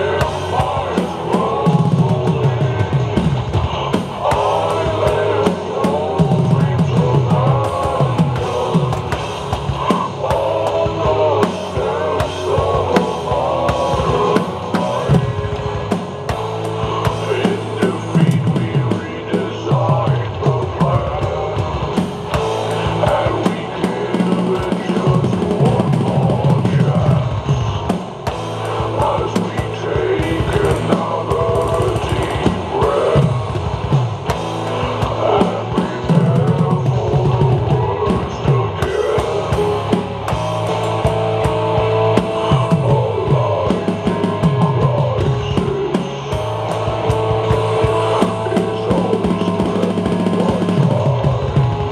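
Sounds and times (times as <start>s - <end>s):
drum kit playing: 0.0s - 51.9s
recorded heavy rock song: 0.0s - 51.9s.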